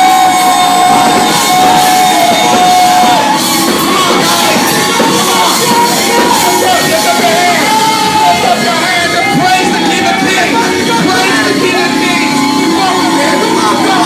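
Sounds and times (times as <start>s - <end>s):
crowd shouting: 0.0s - 14.0s
long held high note: 0.0s - 14.0s
loud live music: 0.0s - 14.0s.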